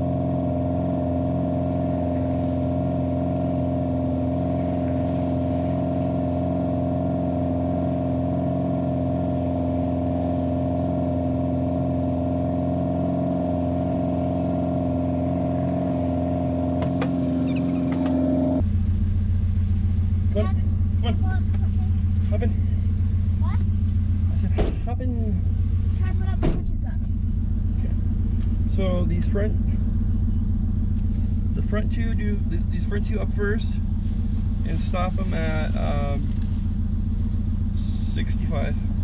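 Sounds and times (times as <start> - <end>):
pickup engine and road drone: 0.0 - 39.0.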